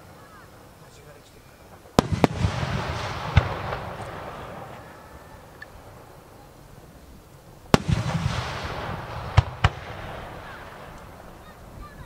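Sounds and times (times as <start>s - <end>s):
fireworks bangs: 0.0s - 12.0s
rolling noisy tail: 0.0s - 12.0s.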